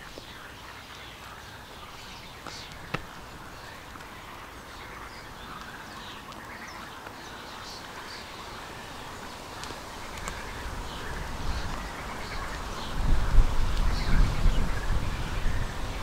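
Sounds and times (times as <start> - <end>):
cygnets peeping: 0.0 - 16.0.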